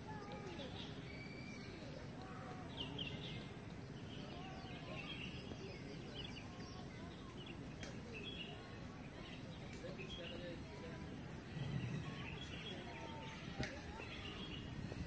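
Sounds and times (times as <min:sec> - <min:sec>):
birds chirping: 0:00.0 - 0:15.0
low background noise: 0:00.0 - 0:15.0.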